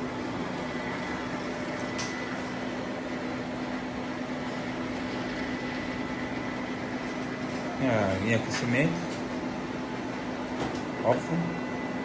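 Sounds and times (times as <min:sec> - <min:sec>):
printer mechanical hum: 0:00.0 - 0:12.0.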